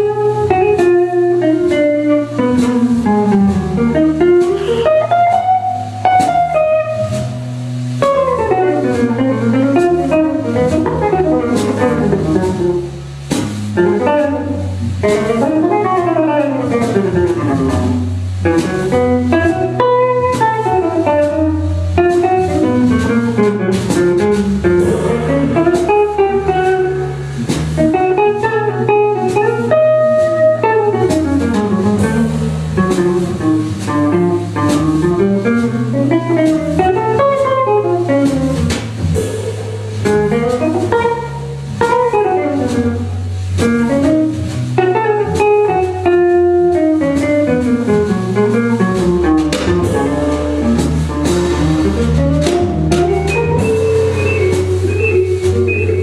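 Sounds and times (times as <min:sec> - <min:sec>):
drum kit with cymbals: 0:00.0 - 0:56.0
organ bass notes: 0:00.0 - 0:56.0.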